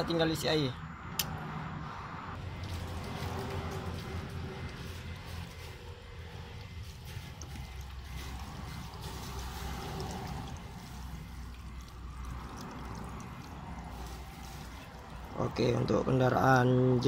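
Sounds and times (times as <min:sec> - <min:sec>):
water pouring and splashing: 0:02.4 - 0:16.3.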